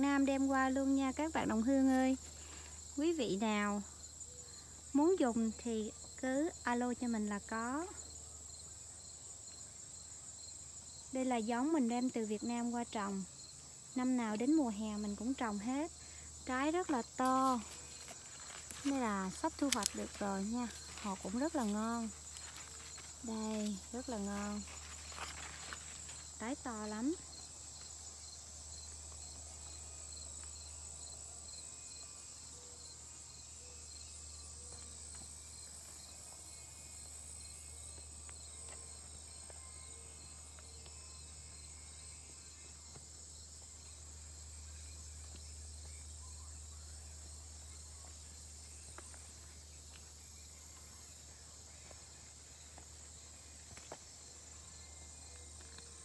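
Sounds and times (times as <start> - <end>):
insects buzzing: 0.0 - 56.0
pulsing insect chirp: 0.0 - 56.0.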